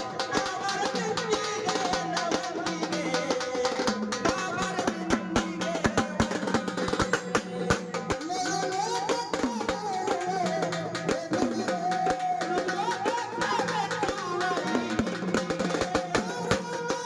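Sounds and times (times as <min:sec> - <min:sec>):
quick steady drum strokes: 0:00.0 - 0:17.0.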